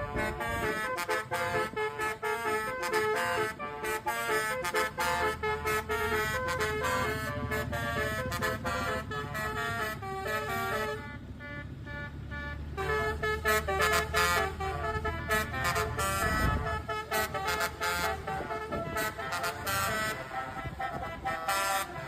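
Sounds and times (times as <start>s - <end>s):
bus engine hum: 0.0s - 22.0s
bus horn playing melody: 0.0s - 22.0s.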